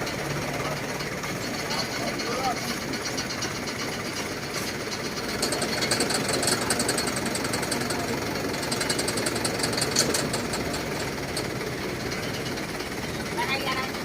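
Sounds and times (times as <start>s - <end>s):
engine clattering: 0.0s - 14.0s.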